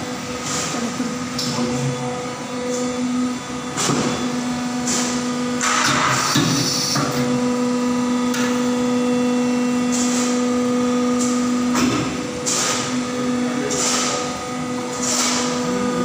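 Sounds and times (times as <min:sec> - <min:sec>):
hydraulic machine whine: 0:00.0 - 0:16.0.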